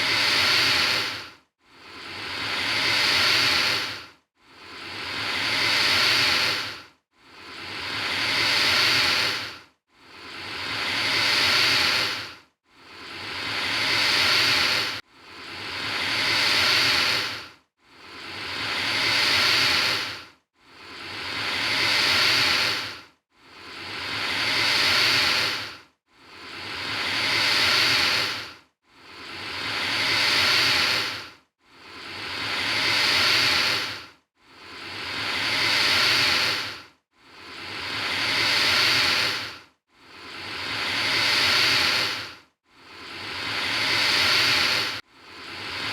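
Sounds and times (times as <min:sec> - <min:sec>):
alligator hissing: 0:00.0 - 0:01.2, 0:02.0 - 0:04.0, 0:04.7 - 0:06.8, 0:07.5 - 0:09.5, 0:10.2 - 0:12.3, 0:12.9 - 0:15.0, 0:15.6 - 0:17.4, 0:18.2 - 0:20.2, 0:20.8 - 0:23.0, 0:23.7 - 0:31.2, 0:31.9 - 0:34.0, 0:34.7 - 0:39.6, 0:40.3 - 0:45.9.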